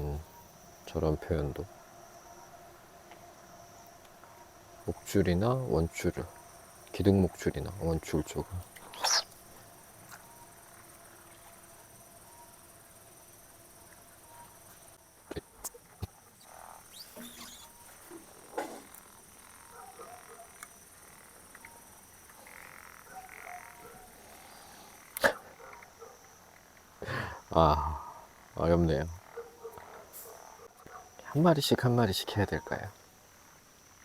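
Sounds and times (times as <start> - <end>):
frogs croaking: 0.0 - 34.0
high insect buzz: 0.0 - 34.0.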